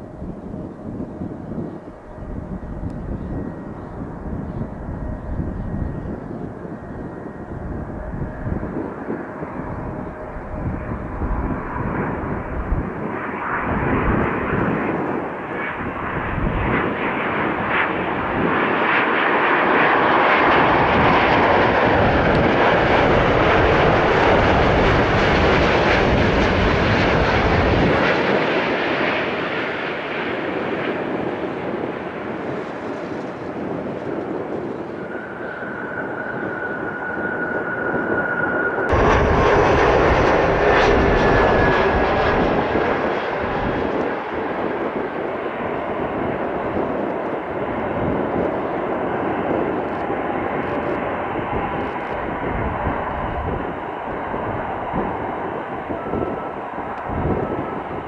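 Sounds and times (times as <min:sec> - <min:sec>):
jet airliner flying past: 0:00.0 - 0:58.0.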